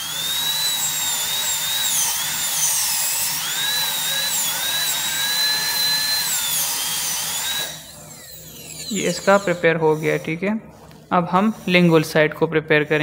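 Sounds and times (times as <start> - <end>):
dental drill whining: 0.0 - 13.0.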